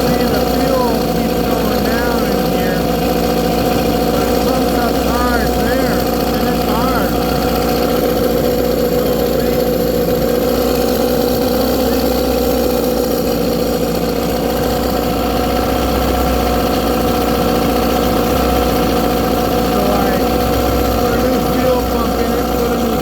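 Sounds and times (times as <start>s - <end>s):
outboard motor idling: 0.0s - 23.0s.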